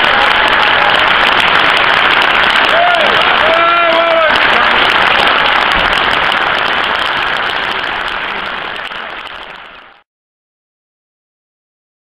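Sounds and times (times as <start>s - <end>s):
crowd applause: 0.0s - 10.0s.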